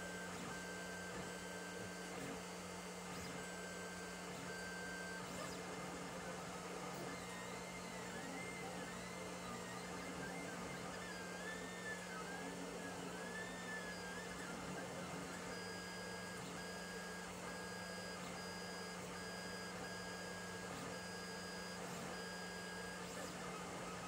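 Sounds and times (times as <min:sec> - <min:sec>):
printer stepper motors whining: 0:00.0 - 0:24.0.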